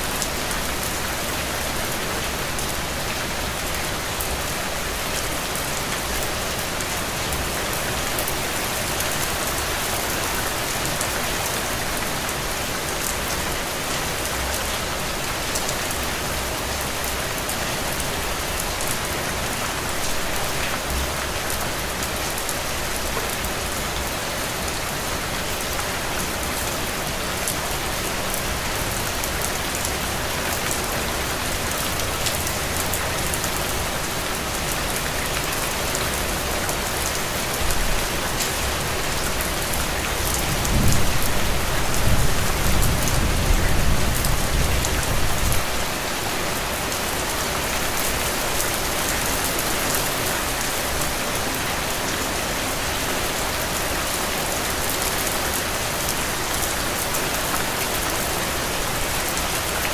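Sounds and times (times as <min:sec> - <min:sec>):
heavy rain on soil and puddles: 0:00.0 - 0:59.9.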